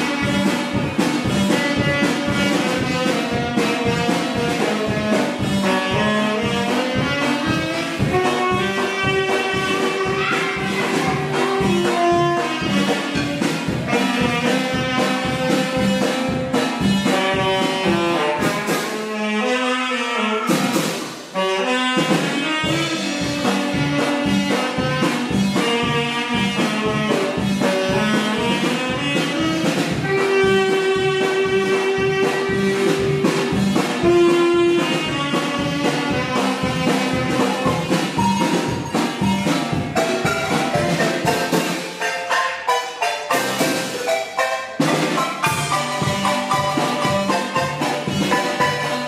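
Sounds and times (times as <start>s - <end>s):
brass band music: 0.0s - 49.0s.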